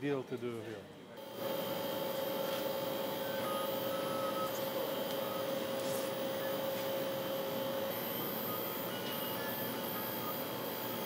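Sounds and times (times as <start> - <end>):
high-pitched motor chirps: 1.2 - 11.0
printer motors whining: 1.2 - 11.0.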